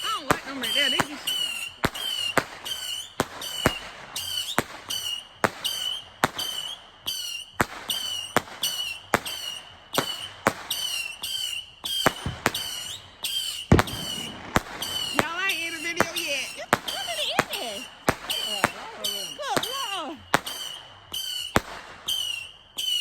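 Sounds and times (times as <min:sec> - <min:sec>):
fireworks banging: 0:00.0 - 0:23.0
fireworks whistling: 0:00.0 - 0:23.0.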